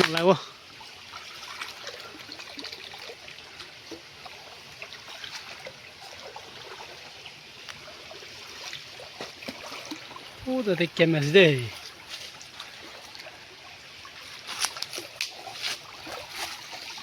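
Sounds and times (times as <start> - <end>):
stream water trickling: 0.0 - 17.0.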